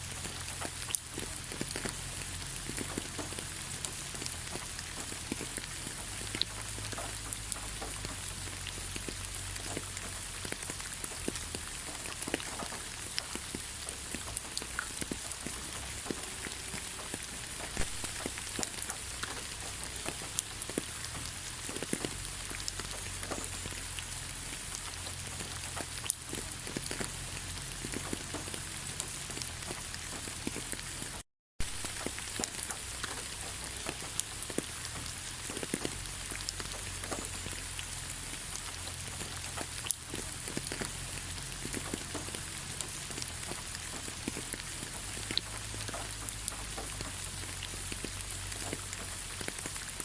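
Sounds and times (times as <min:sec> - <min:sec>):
rain pattering on leaves: 0:00.0 - 0:50.0.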